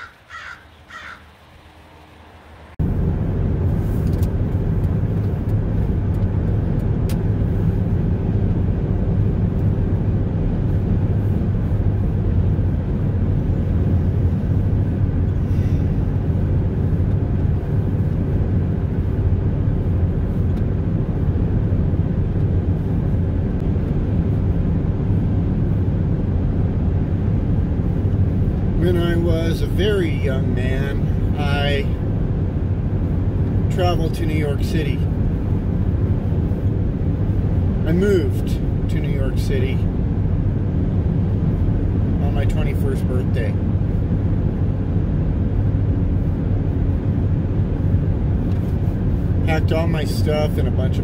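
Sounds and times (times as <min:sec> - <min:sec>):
faint steady hum: 0:00.0 - 0:51.0
vehicle road and engine rumble: 0:00.0 - 0:51.0.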